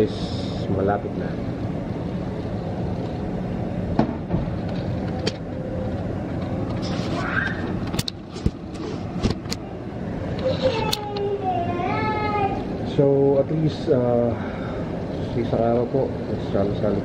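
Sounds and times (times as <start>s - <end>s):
low fan-like hum: 0.0s - 17.0s.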